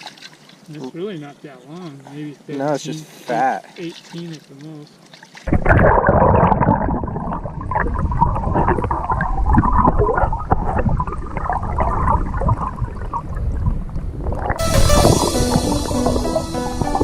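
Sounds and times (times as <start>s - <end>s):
water rushing and gurgling: 0.0s - 17.0s.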